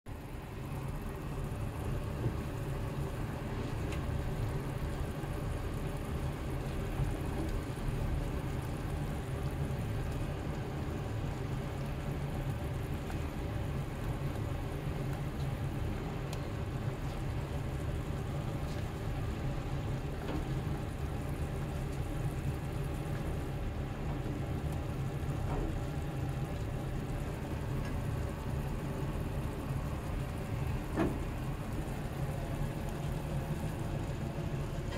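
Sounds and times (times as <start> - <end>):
sauce bubbling and sizzling: 0.1 - 34.9
steady low hum: 0.1 - 34.9.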